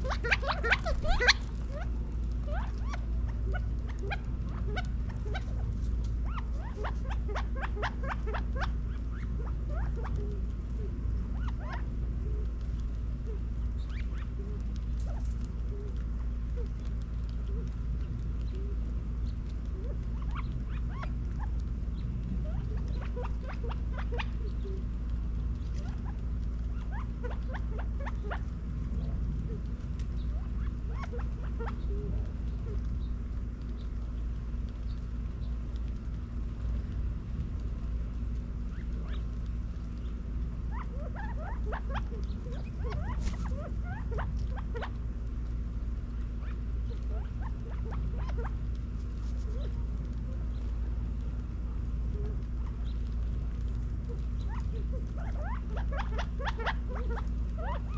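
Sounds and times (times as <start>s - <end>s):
quail pecking at seed: 0.0s - 57.9s
steady low hum: 0.0s - 57.9s.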